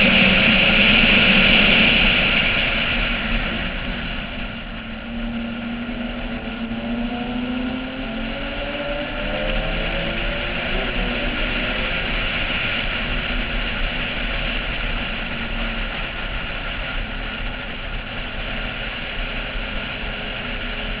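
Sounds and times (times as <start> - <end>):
car engine drone: 0.0 - 21.0
wind rush: 0.0 - 21.0.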